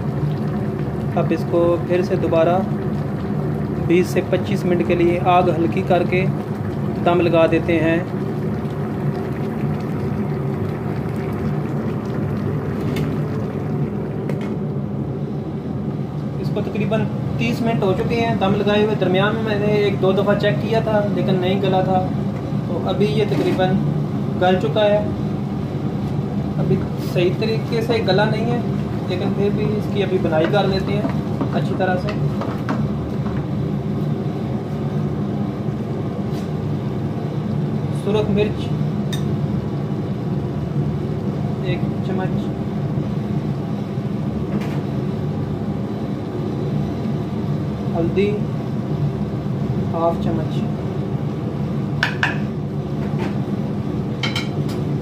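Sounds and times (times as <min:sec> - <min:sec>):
low kitchen rumble: 0:00.0 - 0:55.0
low mechanical hum: 0:00.0 - 0:55.0.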